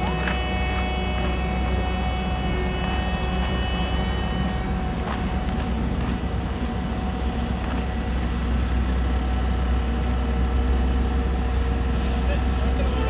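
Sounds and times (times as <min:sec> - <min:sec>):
diesel paving machinery rumbling: 0:00.0 - 0:13.0.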